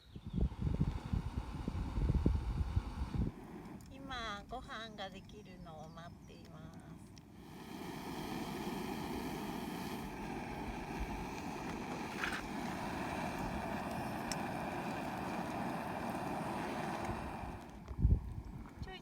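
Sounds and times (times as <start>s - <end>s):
gas stove burning hiss: 0.0s - 19.0s.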